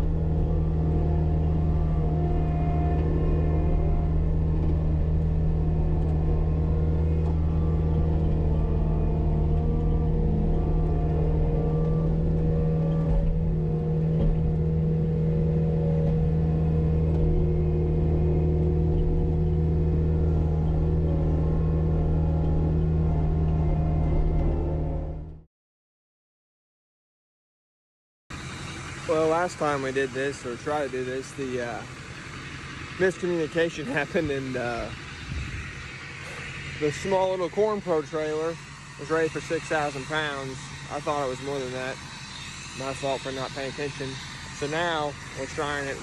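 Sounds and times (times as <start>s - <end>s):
diesel engine running under load: 0.0s - 25.4s, 28.3s - 46.0s.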